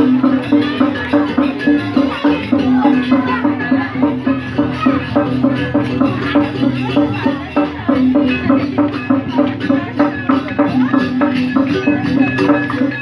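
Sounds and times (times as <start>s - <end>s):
gamelan percussion music: 0.0s - 13.0s.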